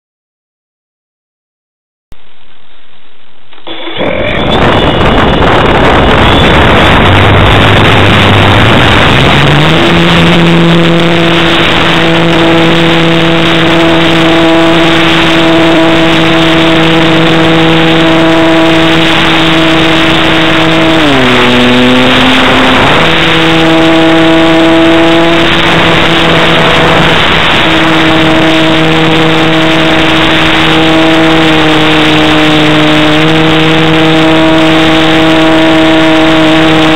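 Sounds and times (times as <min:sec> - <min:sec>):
model airplane motor and propeller: 0:03.5 - 0:36.9
loud rushing noise: 0:03.6 - 0:36.9.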